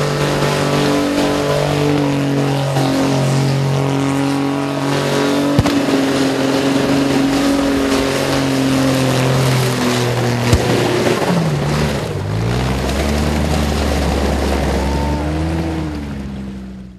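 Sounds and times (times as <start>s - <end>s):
sharp engine bangs: 0.0s - 16.2s
engine at high revs: 0.0s - 16.9s.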